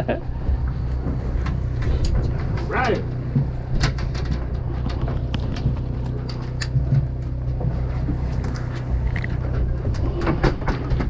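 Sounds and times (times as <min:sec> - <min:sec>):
boat machinery drone: 0:00.0 - 0:11.0
sharp clicks and knocks: 0:00.5 - 0:11.0.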